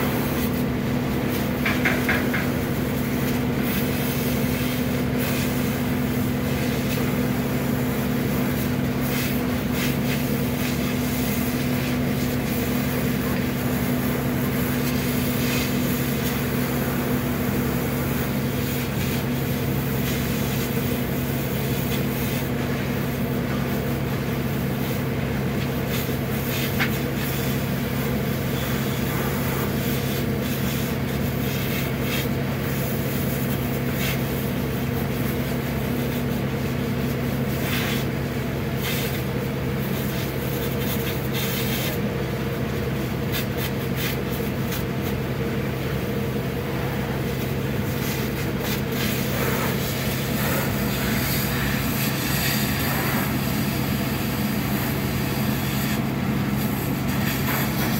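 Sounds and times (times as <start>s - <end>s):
engine and pump droning: 0.0s - 57.9s
fire hose spraying water: 0.0s - 57.9s.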